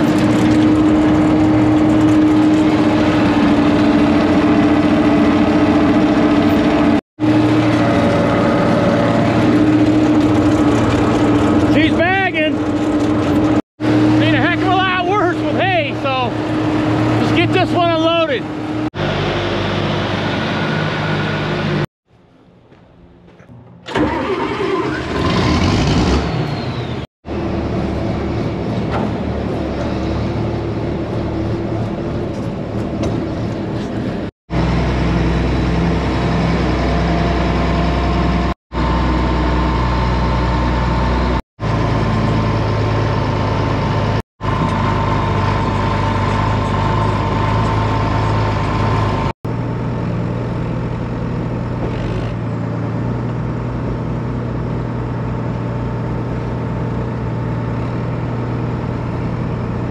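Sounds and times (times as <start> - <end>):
tractor engine running: 0.0 - 25.6, 27.3 - 59.9.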